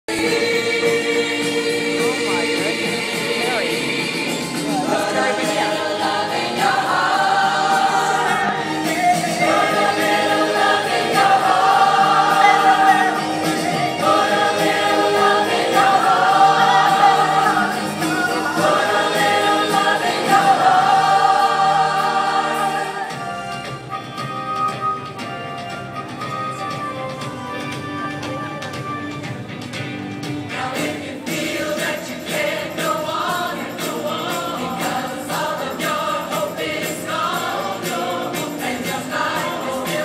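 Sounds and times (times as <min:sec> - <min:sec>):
group of voices singing: 0:00.1 - 0:23.8, 0:30.4 - 0:40.0.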